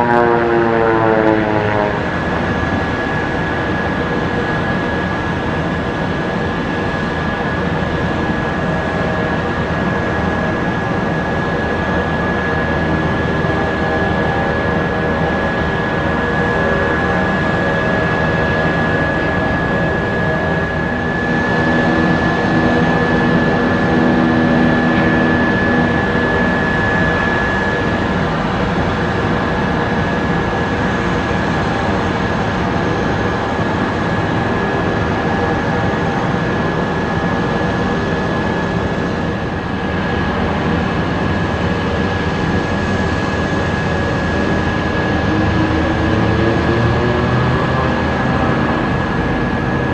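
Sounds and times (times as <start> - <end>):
propeller drone: 0.0 - 49.9
turbine whine: 0.0 - 49.9.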